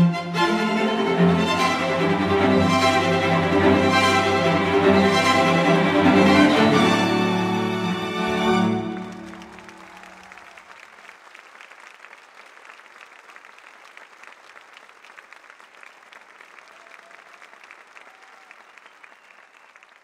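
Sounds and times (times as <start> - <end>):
audience applauding: 0.7 - 20.0.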